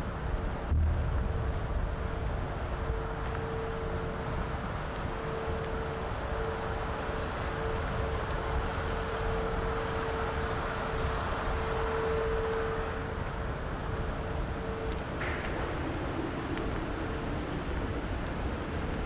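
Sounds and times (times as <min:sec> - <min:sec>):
constant mid-pitched hum: 0:00.0 - 0:19.0
low room rumble and hiss: 0:00.0 - 0:19.0.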